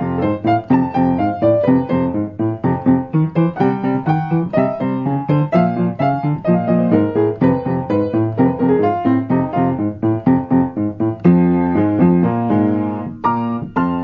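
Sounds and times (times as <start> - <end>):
keyboard melody: 0.0 - 14.0.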